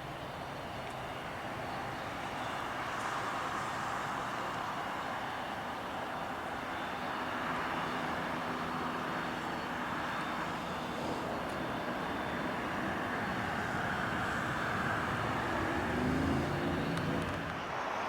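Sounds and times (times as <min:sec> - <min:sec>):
faint engine whine: 0:00.0 - 0:18.0
jet engine rush: 0:00.0 - 0:18.0.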